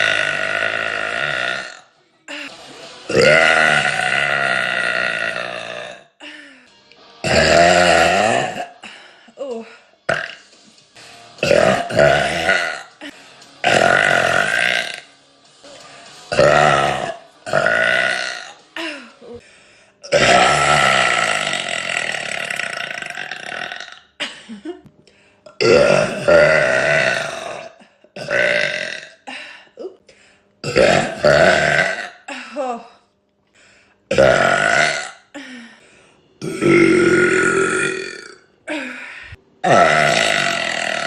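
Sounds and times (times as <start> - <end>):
woman burping loudly: 0.0 - 2.5, 3.1 - 6.3, 7.2 - 10.5, 11.4 - 15.1, 16.3 - 19.4, 20.0 - 24.8, 25.5 - 30.0, 30.6 - 33.0, 34.1 - 35.5, 36.4 - 41.0.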